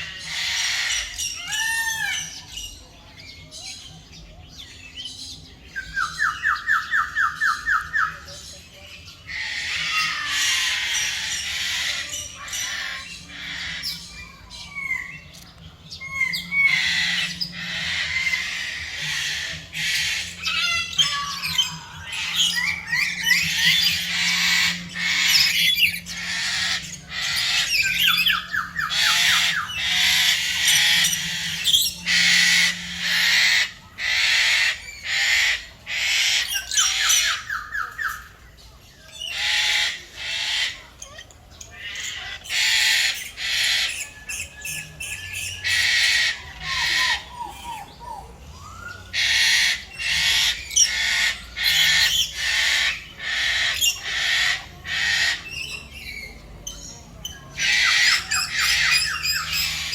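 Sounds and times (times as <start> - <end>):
birds squawking: 0.0 - 4.6, 5.2 - 59.9.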